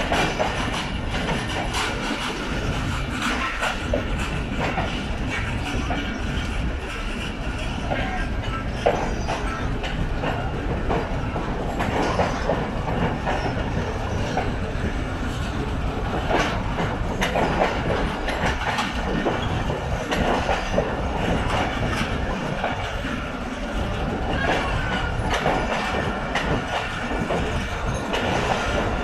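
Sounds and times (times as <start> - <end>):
train wheels clattering over rails: 0.0 - 29.0.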